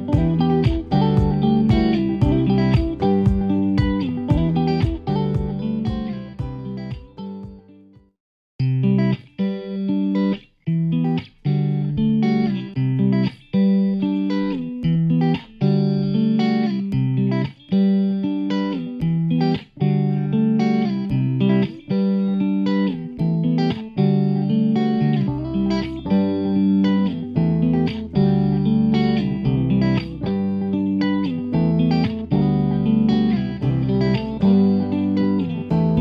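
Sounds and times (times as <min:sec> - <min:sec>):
plucked guitar music: 0:00.0 - 0:08.0, 0:08.6 - 0:36.0.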